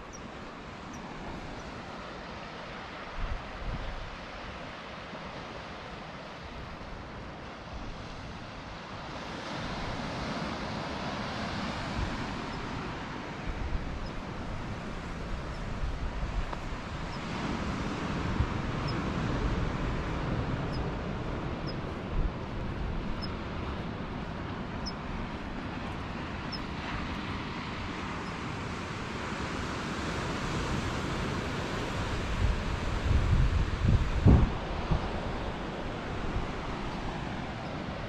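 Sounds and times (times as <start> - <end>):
ocean surf rushing: 0.0 - 38.0
wind gusting against microphone: 0.0 - 38.0.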